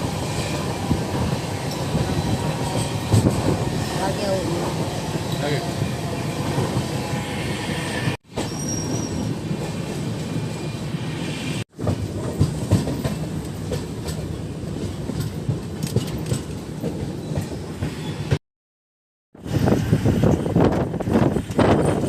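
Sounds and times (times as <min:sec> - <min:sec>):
train rumbling on rails: 0:00.0 - 0:18.4, 0:19.4 - 0:22.0.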